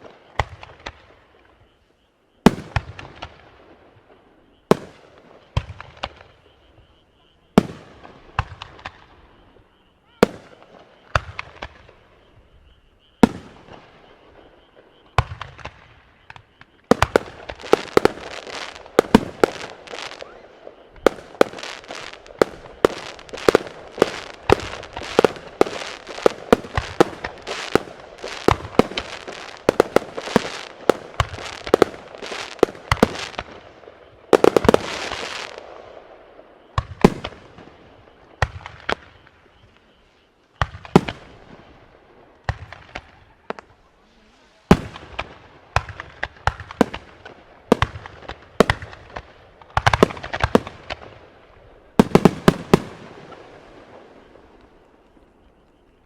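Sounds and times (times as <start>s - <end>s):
fireworks bangs: 0.0s - 1.8s, 2.4s - 56.0s
fireworks crackle: 0.0s - 56.0s.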